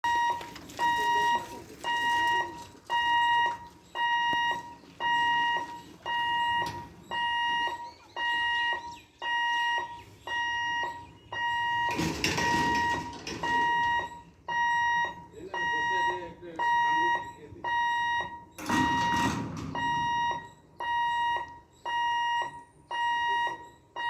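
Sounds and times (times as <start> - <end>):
level crossing alarm beeping: 0.0 - 24.0.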